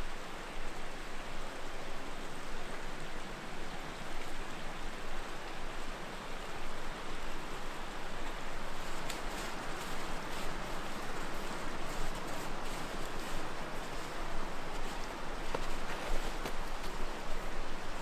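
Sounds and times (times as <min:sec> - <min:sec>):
strong wind rushing through trees: 0:00.0 - 0:18.0.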